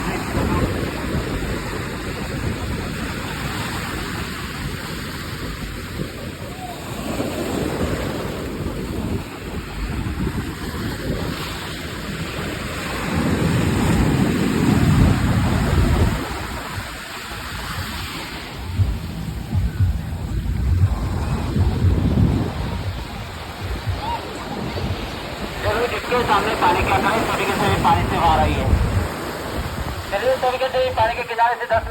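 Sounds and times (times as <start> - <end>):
surf breaking on beach: 0.0 - 31.9
wind rumbling on microphone: 0.0 - 31.9.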